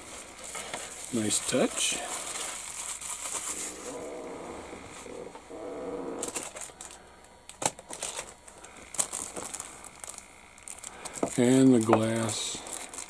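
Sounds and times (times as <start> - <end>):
faint low hum: 0.0 - 13.0
plastic packaging rustling: 0.0 - 13.0.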